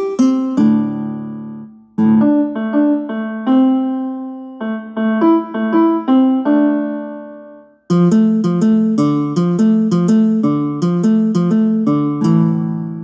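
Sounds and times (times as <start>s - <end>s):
piano-like ringtone melody: 0.0s - 13.0s.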